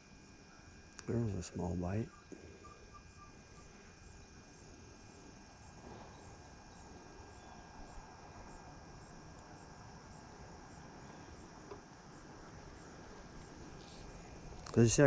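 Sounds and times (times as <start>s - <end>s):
insects chirping: 0.0s - 15.0s
outdoor background hiss: 0.0s - 15.0s.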